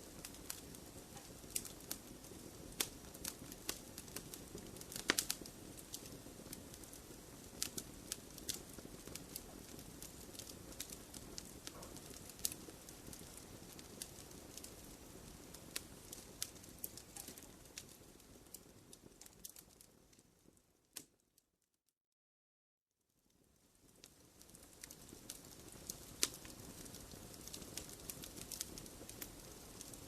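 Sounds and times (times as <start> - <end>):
wood fire crackling and popping: 0.0 - 21.2, 23.3 - 30.0.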